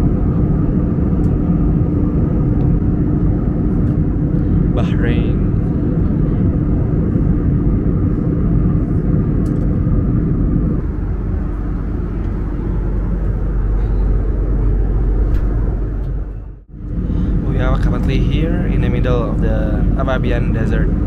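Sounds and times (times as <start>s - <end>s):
faint steady hum: 0.0s - 21.0s
jet airliner cabin rumble: 0.0s - 21.0s.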